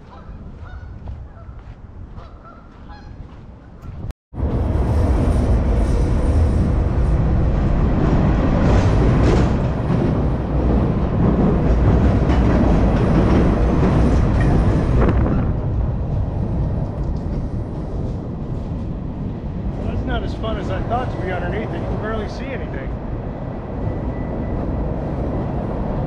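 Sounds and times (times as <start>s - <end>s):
train crossing steel bridge rumble: 4.3s - 26.0s.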